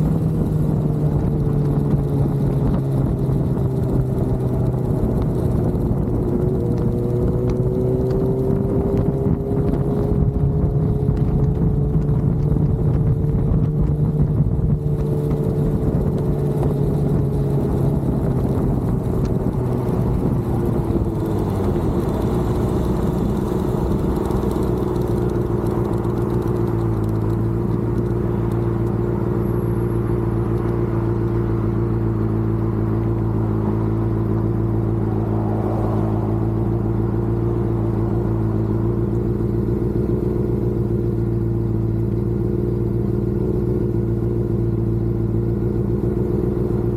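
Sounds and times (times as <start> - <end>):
vehicle engine while driving: 0.0 - 46.9.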